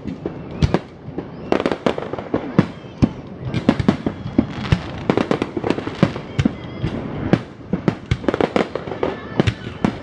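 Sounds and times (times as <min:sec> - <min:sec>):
fireworks exploding: 0:00.0 - 0:10.0.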